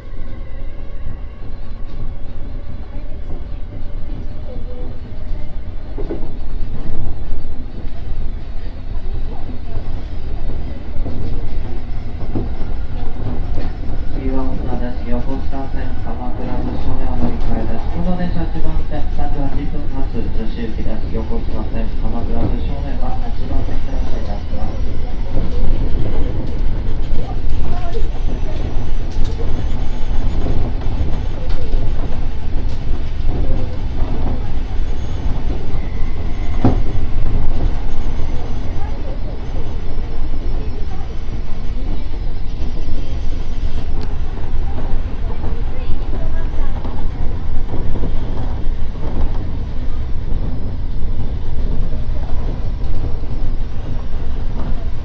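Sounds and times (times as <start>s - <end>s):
train rumbling inside car: 0.0s - 55.0s.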